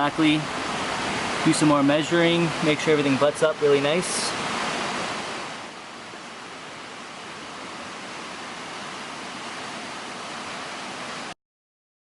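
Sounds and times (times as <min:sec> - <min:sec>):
steady hiss: 0:00.0 - 0:11.4.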